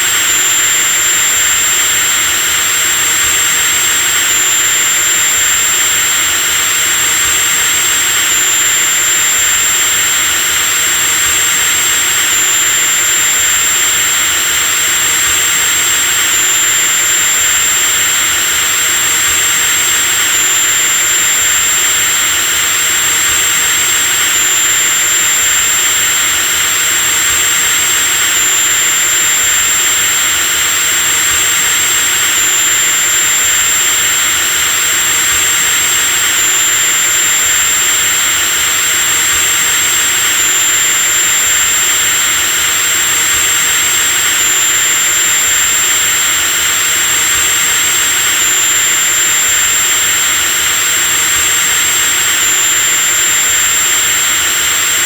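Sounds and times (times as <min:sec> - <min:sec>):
electric drill motor running: 0:00.0 - 0:55.0.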